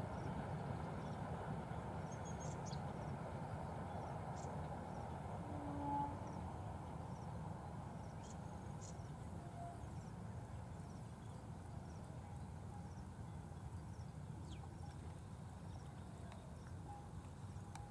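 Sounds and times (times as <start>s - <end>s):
distant freight train rumble: 0.0s - 17.9s.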